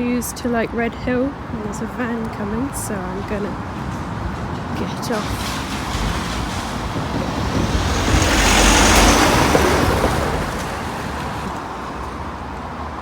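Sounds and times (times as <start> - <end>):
van driving past: 1.3 - 13.0.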